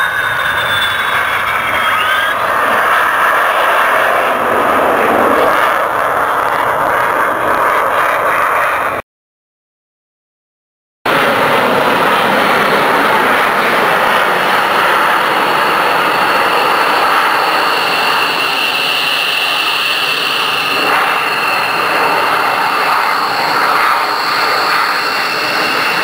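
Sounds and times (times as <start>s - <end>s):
high jet whine: 0.0s - 9.0s, 11.1s - 26.0s
jet engine roar: 0.0s - 9.0s, 11.1s - 26.0s.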